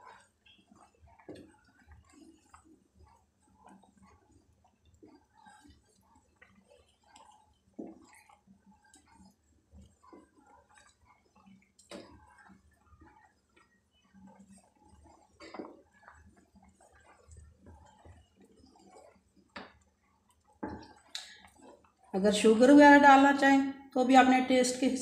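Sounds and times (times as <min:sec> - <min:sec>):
spatula stirring thick porridge: 0:00.0 - 0:23.2.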